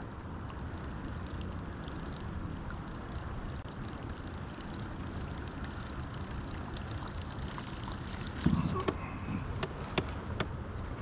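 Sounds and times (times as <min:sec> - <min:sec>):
river low rumble: 0:00.0 - 0:11.0.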